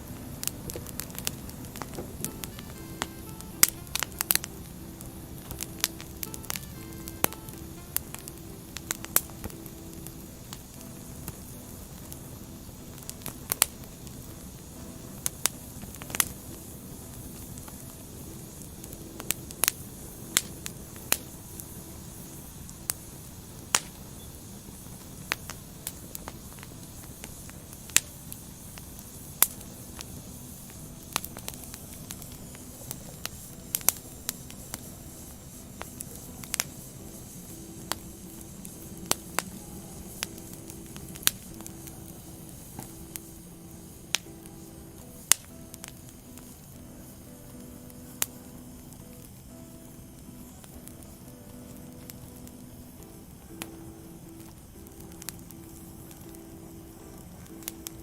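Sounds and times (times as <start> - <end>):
fire hissing: 0.0 - 58.0
wood fire crackling and popping: 0.0 - 58.0.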